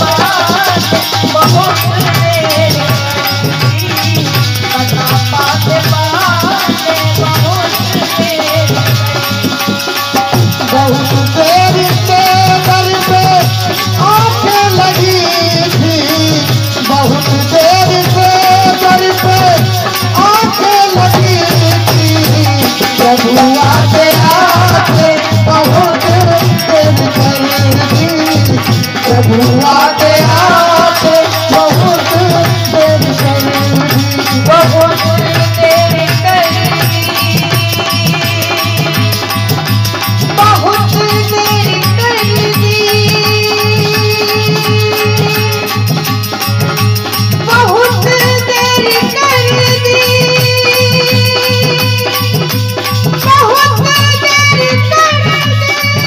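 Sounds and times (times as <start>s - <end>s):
devotional song with wavering melody: 0.0s - 56.0s
rattling shaker percussion: 0.0s - 56.0s
steady drum beat: 0.0s - 56.0s.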